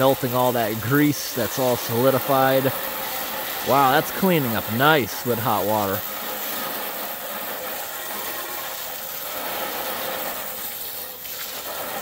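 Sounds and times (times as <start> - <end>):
hose water splashing into metal pan: 0.0 - 12.0.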